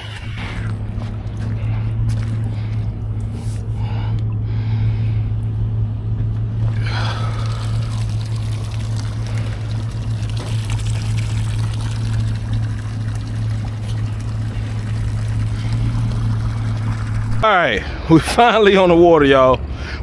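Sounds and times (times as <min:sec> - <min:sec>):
water rushing and splashing: 0:00.0 - 0:04.5, 0:06.5 - 0:18.2
boat motor hum: 0:00.0 - 0:20.0.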